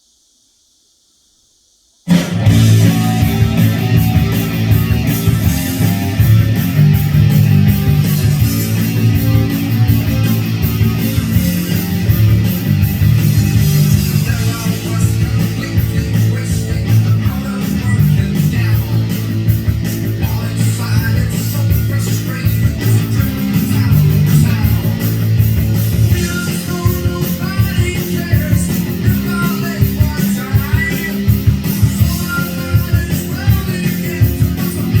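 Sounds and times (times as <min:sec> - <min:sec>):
rock music with distorted guitar: 0:02.1 - 0:35.0.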